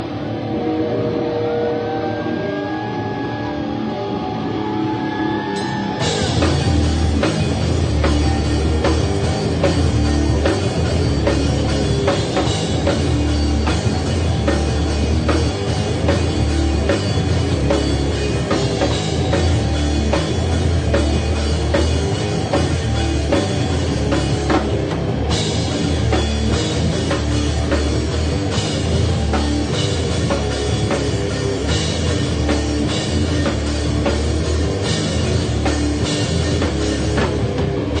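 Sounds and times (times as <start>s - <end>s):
heavy rock band playing: 0.0s - 38.0s
drum kit hitting hard: 6.0s - 38.0s.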